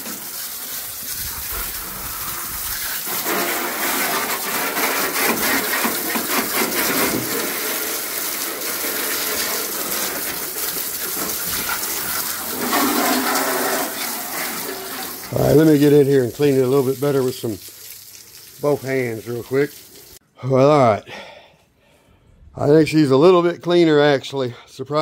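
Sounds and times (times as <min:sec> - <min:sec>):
hose water splashing on metal: 0:00.0 - 0:20.2.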